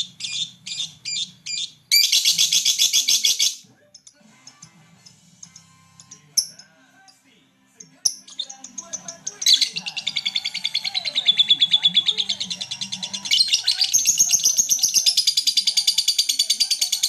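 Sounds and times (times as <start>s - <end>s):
lovebird chirping and trilling: 0.0s - 6.7s, 8.1s - 17.0s.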